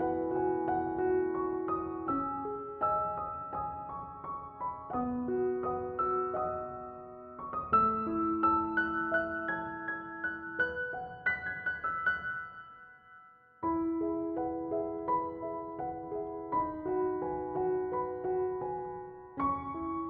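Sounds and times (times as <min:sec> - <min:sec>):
electronic keyboard melody: 0:00.0 - 0:20.0.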